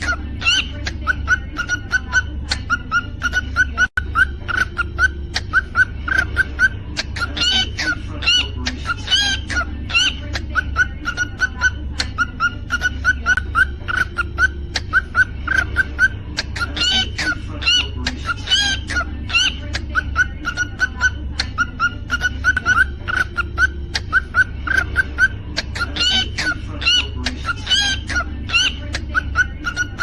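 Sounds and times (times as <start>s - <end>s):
cockatiel chirping: 0.0s - 30.0s
steady low hum: 0.0s - 30.0s.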